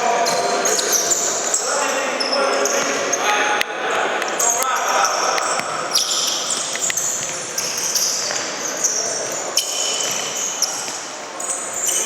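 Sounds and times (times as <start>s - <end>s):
shoes squeaking on court floor: 0.0s - 12.0s.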